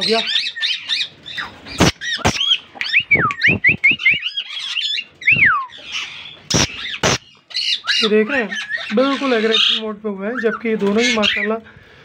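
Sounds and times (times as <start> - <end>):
parakeets whistling calls: 0.0 - 11.5
parakeets squawking: 0.0 - 11.6.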